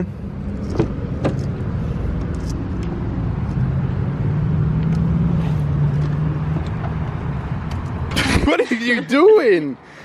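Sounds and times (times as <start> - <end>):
engine hum: 0.0 - 9.2
car engine rumbling: 0.0 - 9.9
road noise: 0.0 - 10.0.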